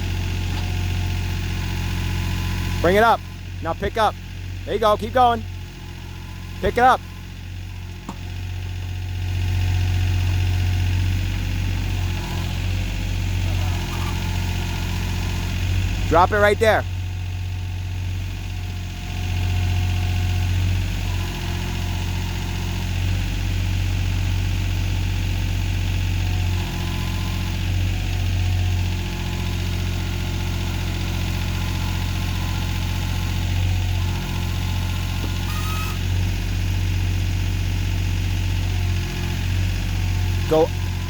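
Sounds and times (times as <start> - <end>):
diesel engine running steadily: 0.0 - 41.0.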